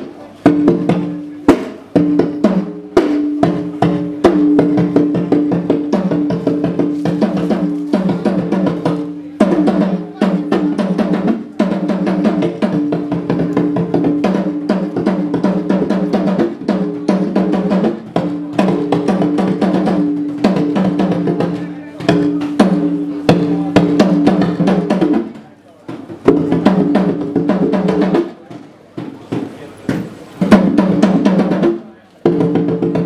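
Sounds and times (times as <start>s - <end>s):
fast drum rhythm: 0.0s - 33.0s.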